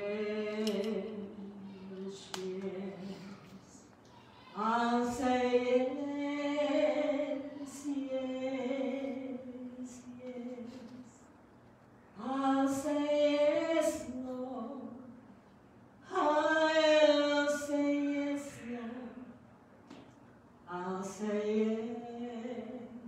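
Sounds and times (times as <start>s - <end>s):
woman singing unaccompanied: 0.0s - 3.9s, 4.5s - 11.2s, 12.2s - 15.2s, 16.0s - 19.4s, 20.7s - 23.0s.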